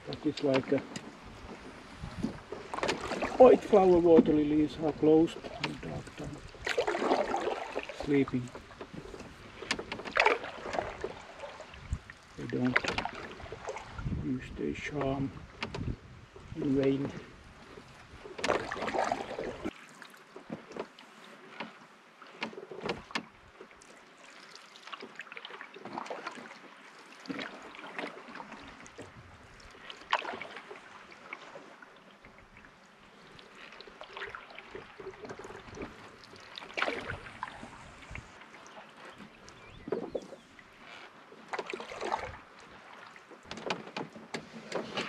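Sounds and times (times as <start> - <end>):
paddle splashing in water: 0.0 - 45.0.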